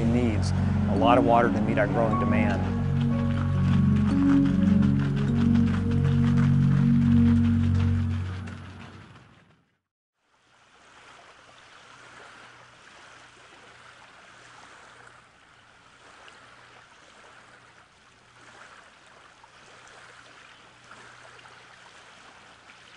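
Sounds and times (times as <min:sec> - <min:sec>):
stream water flowing: 0:00.0 - 0:09.5, 0:10.2 - 0:22.9.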